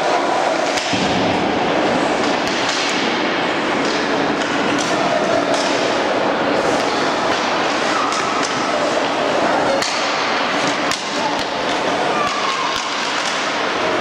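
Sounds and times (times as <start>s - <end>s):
hockey sticks and puck knocking: 0.0s - 1.3s, 2.1s - 14.0s
faint voices: 0.0s - 14.0s
steady hiss of arena noise: 0.0s - 14.0s.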